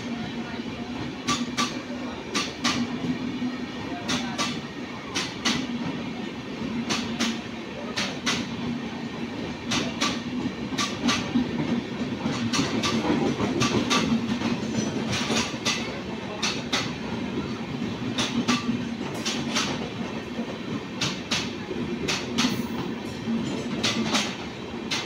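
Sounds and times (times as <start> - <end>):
clickety-clack over rail joints: 0.0 - 25.0
wheels rumbling on rail: 0.0 - 25.0.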